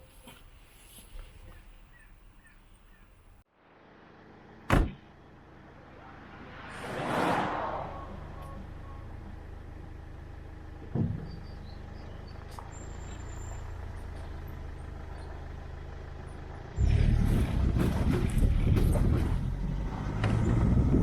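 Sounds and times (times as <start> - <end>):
car engine humming: 3.6 - 21.0.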